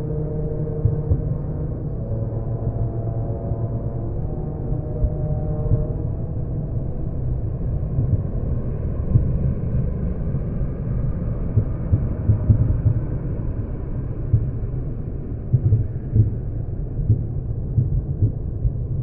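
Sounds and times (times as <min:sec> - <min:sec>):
deep rumble of road traffic: 0:00.0 - 0:19.0.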